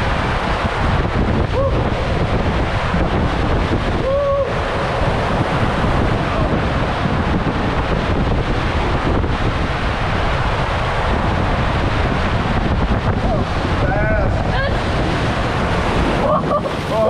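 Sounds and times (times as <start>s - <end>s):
water and air rushing: 0.0s - 17.0s.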